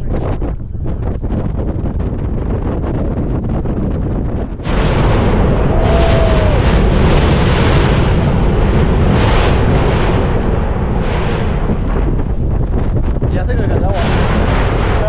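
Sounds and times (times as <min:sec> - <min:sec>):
wind on microphone: 0:00.0 - 0:15.0
volcano eruption roar: 0:01.5 - 0:15.0.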